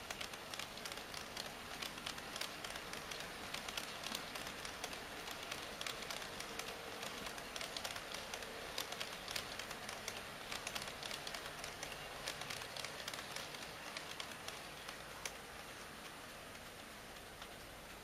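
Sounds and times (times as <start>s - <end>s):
model train wheels clicking: 0.0s - 18.0s.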